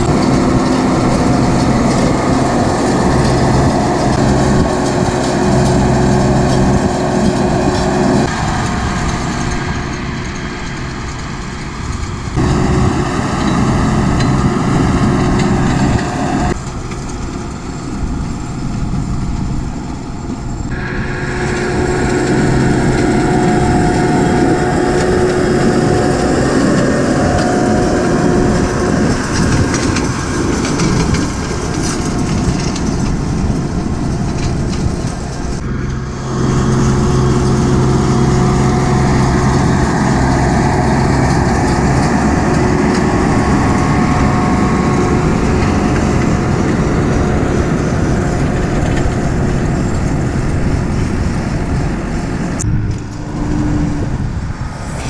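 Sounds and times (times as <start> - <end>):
baler machinery working: 0.0 - 55.0
tractor engine running: 0.0 - 55.0.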